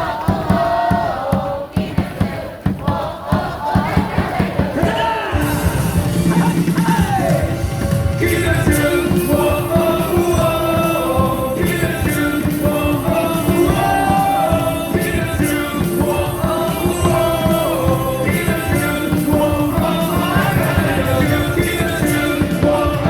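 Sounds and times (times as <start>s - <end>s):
cheer song over loudspeakers: 0.0s - 23.0s.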